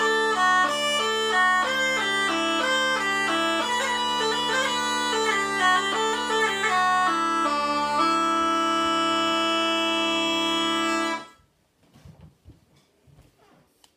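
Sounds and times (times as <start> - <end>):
bagpipe drone: 0.0 - 11.4
bagpipe melody: 0.0 - 11.5.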